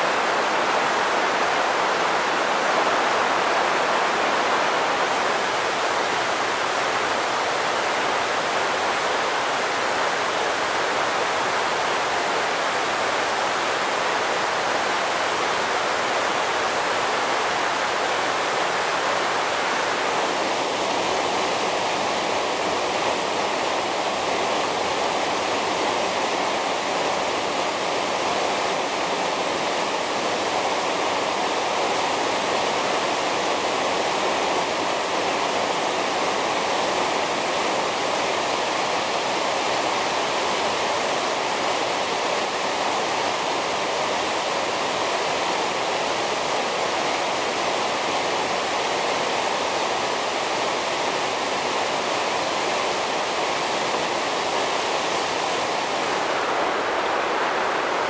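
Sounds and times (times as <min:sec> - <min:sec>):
waterfall crashing: 0:00.0 - 0:58.0.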